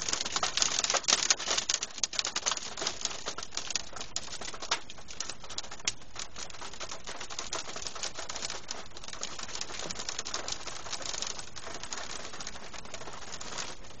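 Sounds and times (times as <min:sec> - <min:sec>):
hail clattering on car: 0:00.0 - 0:14.0.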